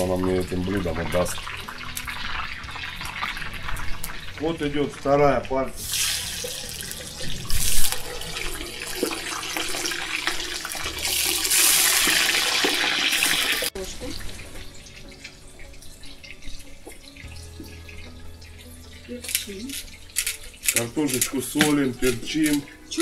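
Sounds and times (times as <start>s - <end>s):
meat sizzling in hot oil: 0.0s - 23.0s
oil popping: 0.0s - 23.0s.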